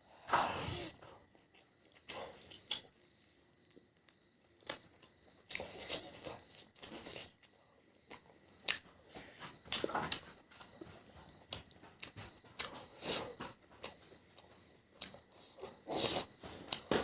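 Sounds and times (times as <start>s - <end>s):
chewing and biting food: 1.0s - 17.0s.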